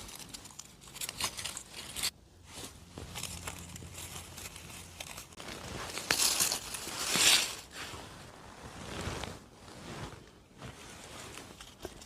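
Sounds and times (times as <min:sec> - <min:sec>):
rustling in leaf litter: 0:00.0 - 0:11.4.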